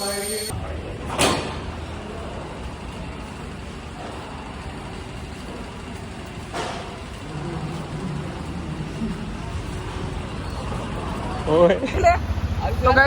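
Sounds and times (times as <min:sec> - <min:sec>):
motor vehicle engine noise: 0:00.0 - 0:13.0.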